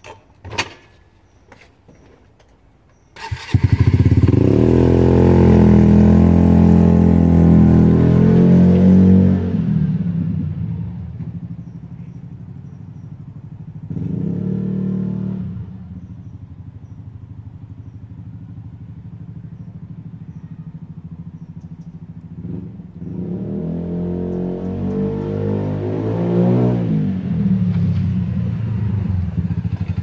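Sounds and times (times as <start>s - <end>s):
scooter engine riding away: 2.9s - 30.0s.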